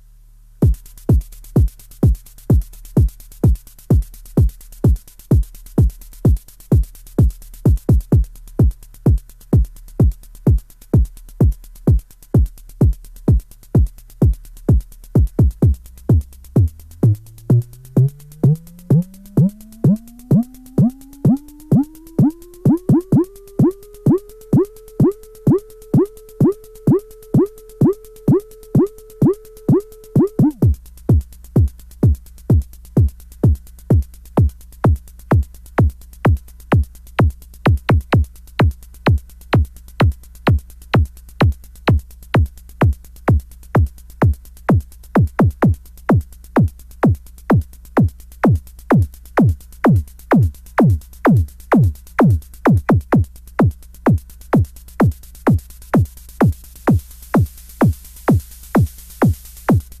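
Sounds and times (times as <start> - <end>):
noise hiss: 0.0 - 60.0
synthesizer kick drum thumps: 0.6 - 60.0.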